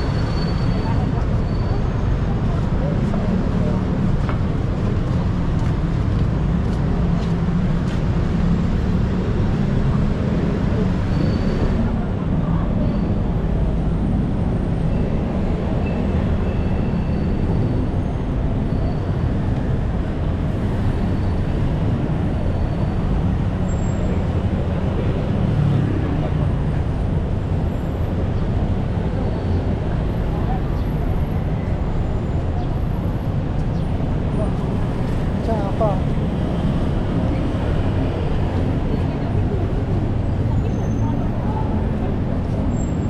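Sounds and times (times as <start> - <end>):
low rumble of traffic: 0.0 - 43.0.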